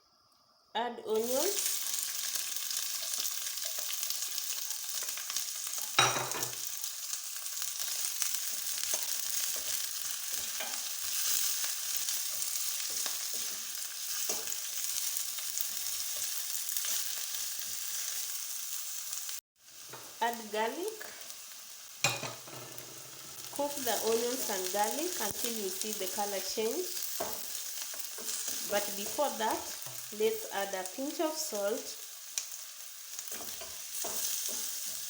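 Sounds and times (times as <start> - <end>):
onions sizzling in oil: 1.1 - 35.0.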